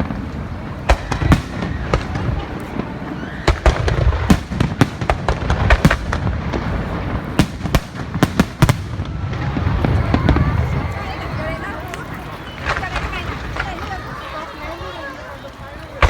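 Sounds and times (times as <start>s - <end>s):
fireworks bangs and pops: 0.0s - 16.0s.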